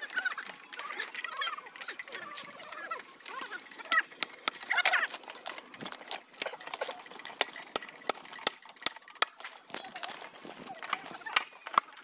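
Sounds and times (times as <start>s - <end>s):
steel bars clinking on rail fastenings: 0.0s - 12.0s.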